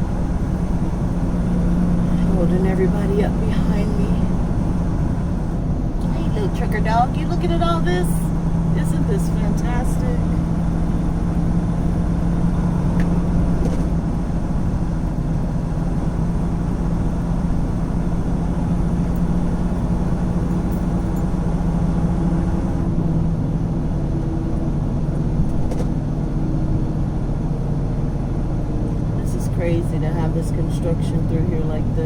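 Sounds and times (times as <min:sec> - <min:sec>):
road noise: 0:00.0 - 0:32.0
truck diesel engine running: 0:00.0 - 0:32.0.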